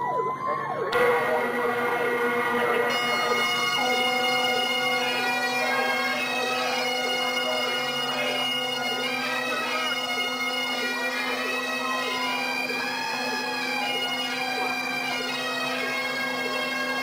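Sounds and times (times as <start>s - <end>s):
bagpipes playing a tune: 1.0s - 17.0s.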